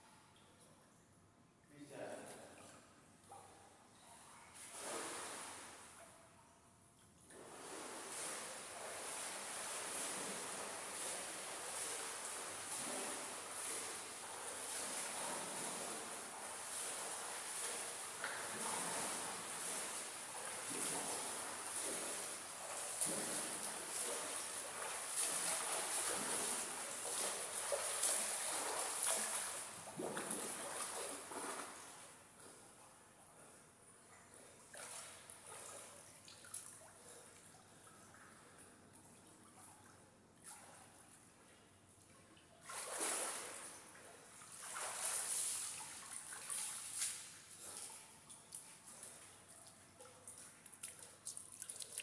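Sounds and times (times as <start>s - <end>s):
water splashing from swimming: 4.2s - 6.2s, 7.3s - 32.9s, 34.1s - 52.0s.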